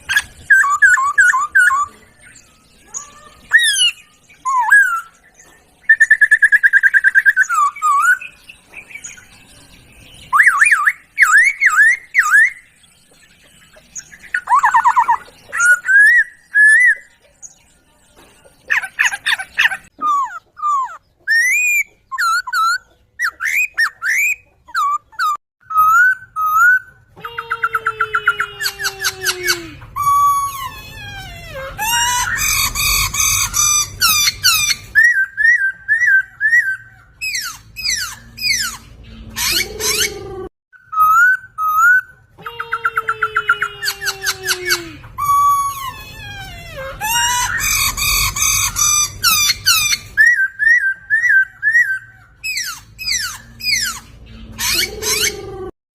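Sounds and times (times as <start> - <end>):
bird song whistled phrases and trills: 0.0 - 55.7.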